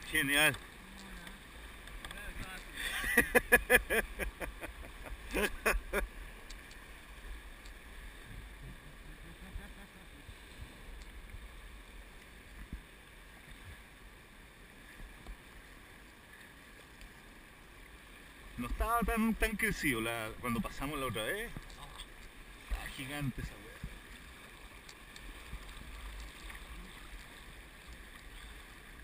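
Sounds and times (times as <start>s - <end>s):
fast-flowing river: 0.0s - 29.0s.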